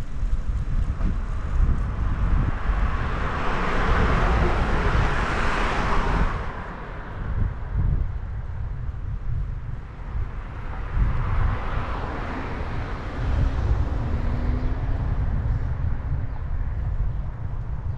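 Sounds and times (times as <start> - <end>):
passing car road noise: 0.0 - 17.9
wind noise on microphone: 0.0 - 17.9.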